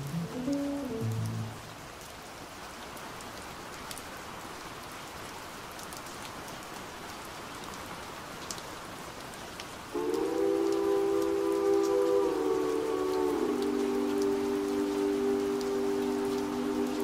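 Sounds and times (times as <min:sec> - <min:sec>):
rain drop ticks: 0:00.0 - 0:17.0
steady rain hiss: 0:00.0 - 0:17.0.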